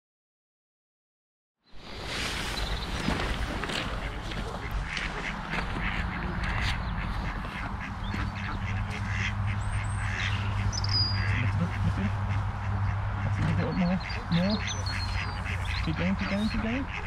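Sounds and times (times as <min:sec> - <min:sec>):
ducks quacking: 0:02.7 - 0:17.0.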